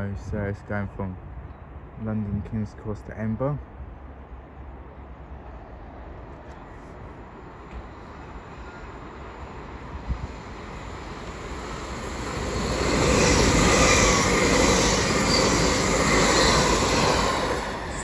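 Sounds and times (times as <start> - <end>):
train passing at speed: 3.4 - 18.0.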